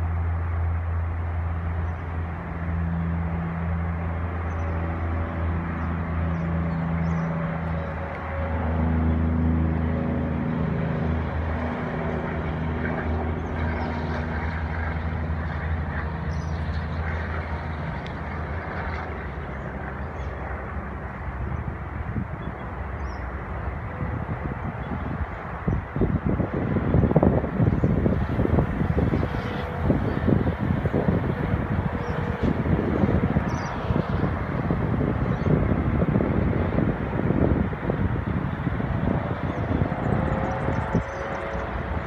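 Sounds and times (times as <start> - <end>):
locomotive engines droning: 0.0 - 42.0.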